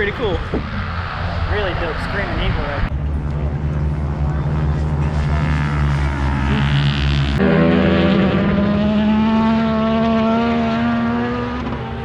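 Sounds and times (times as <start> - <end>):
low engine drone: 0.0 - 12.0
racing motorcycle engines revving: 0.0 - 12.0.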